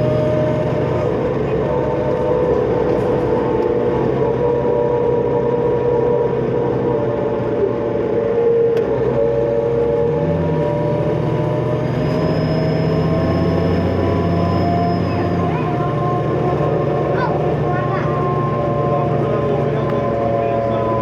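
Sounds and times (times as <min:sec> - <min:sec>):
bus diesel engine running: 0:00.0 - 0:21.0
high turbocharger whine: 0:00.0 - 0:21.0.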